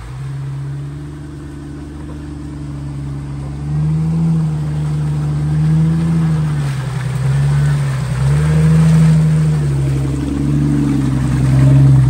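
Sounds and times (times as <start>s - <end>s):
engine revving under throttle: 0.0s - 12.0s.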